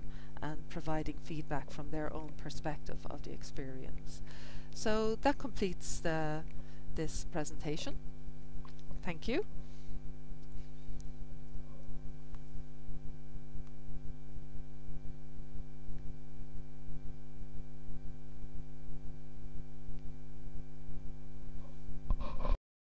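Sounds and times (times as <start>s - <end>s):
steady electrical hum: 0.0s - 22.6s.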